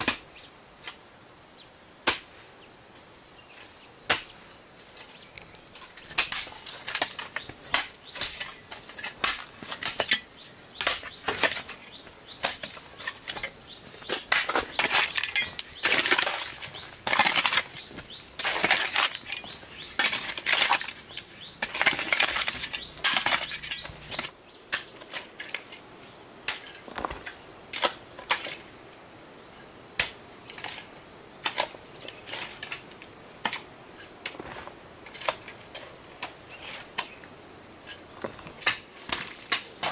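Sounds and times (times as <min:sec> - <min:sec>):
sharp knocks and crunching crackle: 0:03.6 - 0:28.8, 0:30.0 - 0:39.9.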